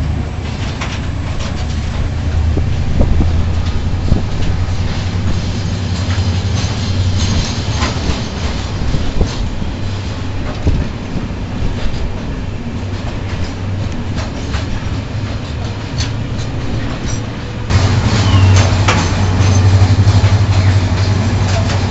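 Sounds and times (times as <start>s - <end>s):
freight train rumbling past: 0.0s - 21.9s
wheels clicking over rail joints: 0.0s - 21.9s.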